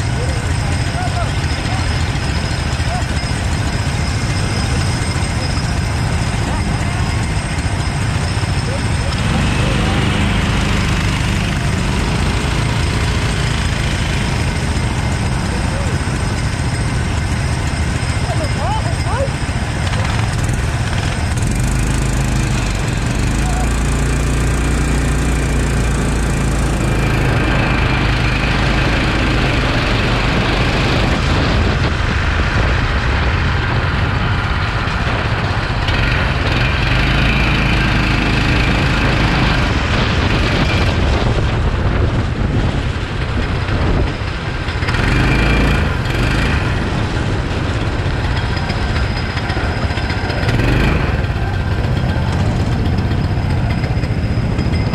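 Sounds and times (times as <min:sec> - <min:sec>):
kart engine accelerating: 0:00.0 - 0:54.9.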